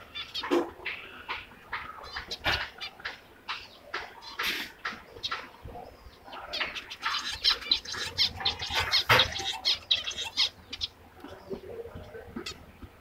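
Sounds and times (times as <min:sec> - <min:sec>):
finches chirping: 0:00.0 - 0:12.6.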